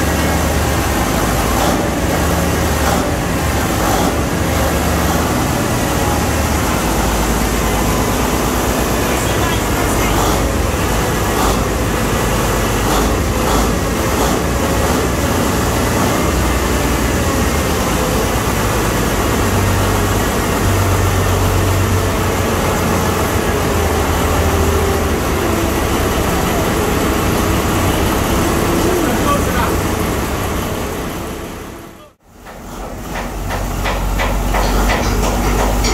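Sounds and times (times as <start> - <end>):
ship diesel engine drone: 0.0 - 35.9.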